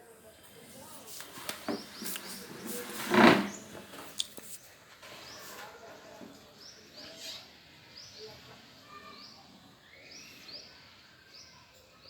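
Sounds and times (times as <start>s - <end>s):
lovebirds chirping: 0.3s - 12.0s.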